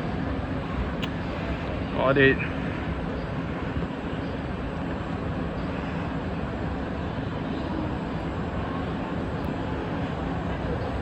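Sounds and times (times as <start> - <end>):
metro train wheels rumbling: 0.0 - 11.0.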